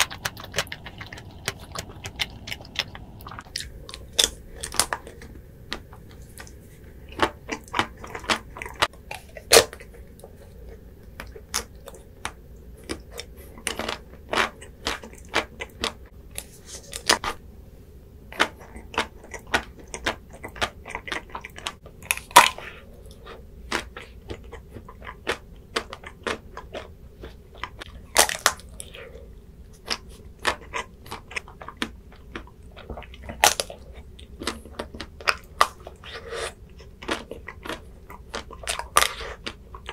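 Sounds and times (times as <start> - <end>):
soft chewing mouth sounds: 0.0 - 17.4, 18.3 - 39.9.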